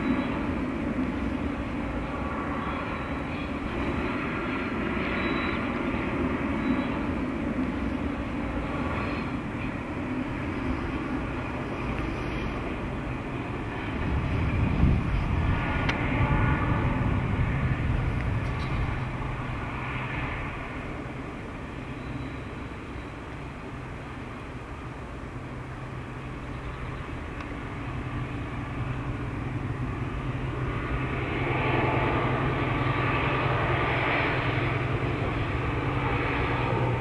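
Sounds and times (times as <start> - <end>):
diesel locomotive engine drone: 0.0 - 37.0.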